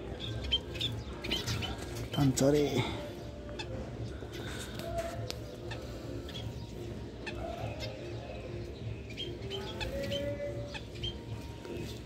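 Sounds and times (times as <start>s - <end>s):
birds chirping: 0.0s - 12.0s
low repeated bird notes: 0.0s - 12.0s.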